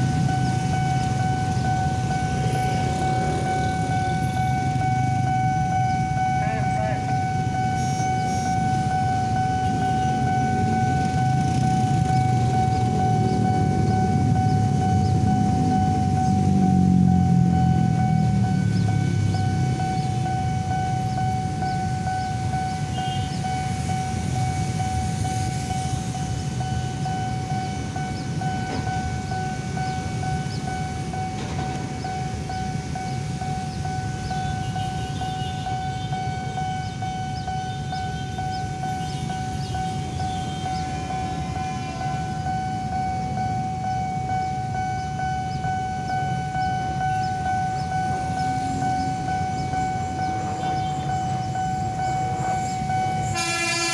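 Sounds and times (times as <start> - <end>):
level-crossing alarm high tone: 0.0 - 53.9
road traffic: 0.0 - 53.9
train rumbling: 0.0 - 53.9.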